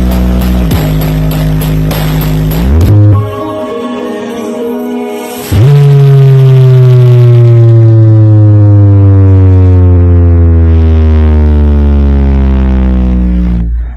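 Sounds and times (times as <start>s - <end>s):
bass tone sliding down: 0.0s - 13.9s.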